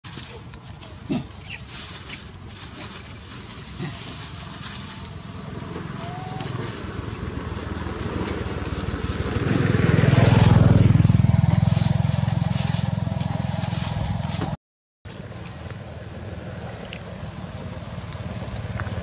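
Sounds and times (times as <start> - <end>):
vehicle engine passing: 0.2 - 14.6, 15.2 - 19.0.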